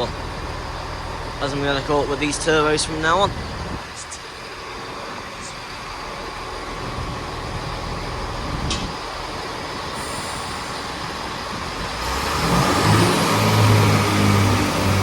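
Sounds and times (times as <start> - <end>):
diesel train engines rumbling: 0.0 - 15.0.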